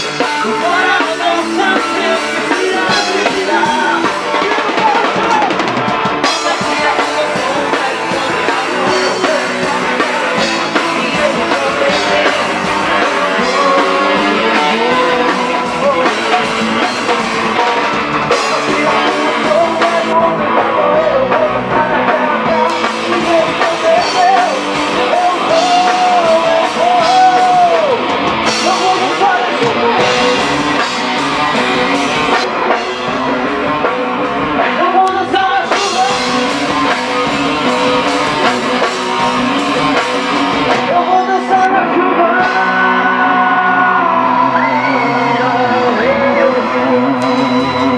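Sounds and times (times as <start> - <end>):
drum kit steady beat: 0.0 - 44.8
bending lead guitar melody: 0.0 - 47.9
guitar: 0.0 - 47.9.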